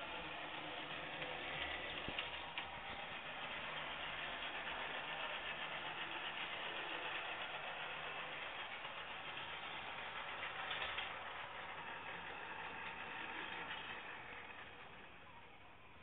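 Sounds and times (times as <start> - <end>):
model train motor whirring: 0.0 - 16.0.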